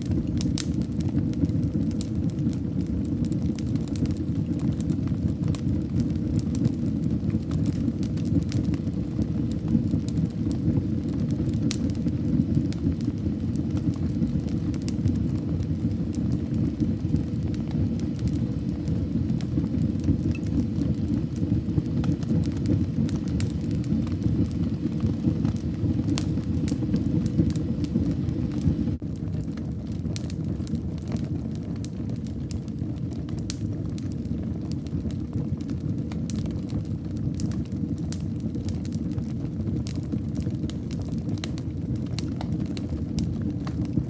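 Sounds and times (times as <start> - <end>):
fire crackles and pops: 0.0 - 44.0
fire rumbling in a fireplace: 0.0 - 44.0.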